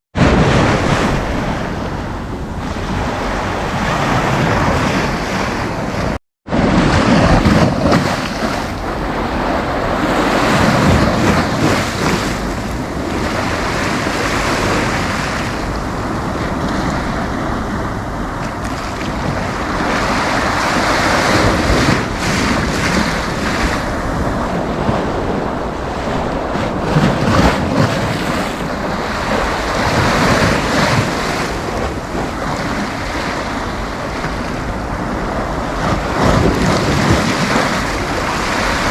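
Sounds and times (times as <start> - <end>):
wind buffeting microphone: 0.1 - 38.9
sea waves breaking: 0.2 - 38.9.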